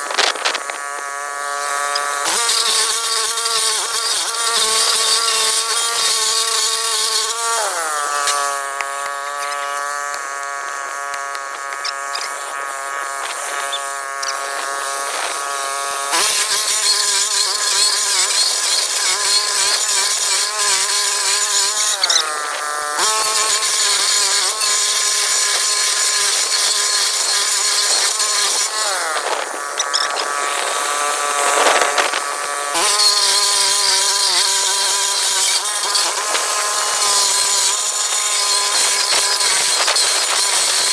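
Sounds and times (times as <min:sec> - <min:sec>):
stump grinder engine whining: 0:00.0 - 0:40.9.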